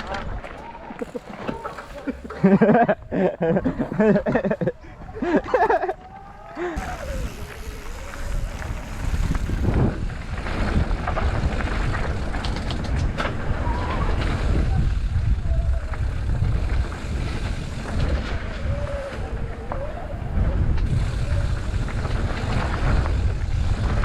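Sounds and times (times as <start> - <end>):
bike rattling and clicking: 0.0 - 24.0
wind buffeting the microphone: 0.0 - 24.0.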